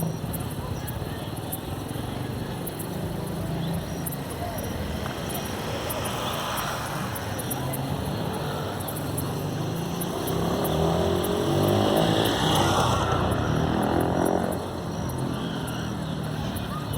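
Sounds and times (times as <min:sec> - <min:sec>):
steady rushing noise: 0:00.0 - 0:16.9
vehicle engine passing by: 0:00.0 - 0:16.9.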